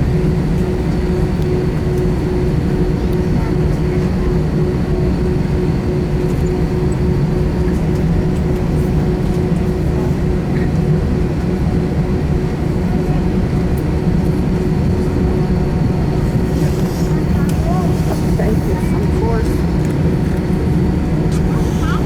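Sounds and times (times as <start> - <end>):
jet engine cabin drone: 0.0 - 22.0.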